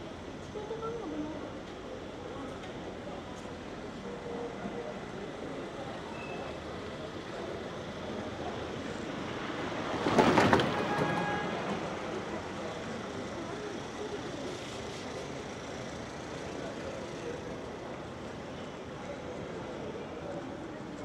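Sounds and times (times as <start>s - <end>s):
street ambience: 0.0s - 21.0s.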